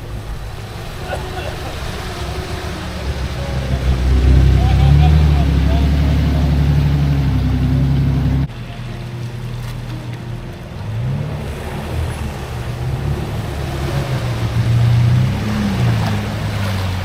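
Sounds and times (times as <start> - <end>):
steady rushing noise: 0.0 - 17.0
vehicle engine revving: 0.0 - 17.0.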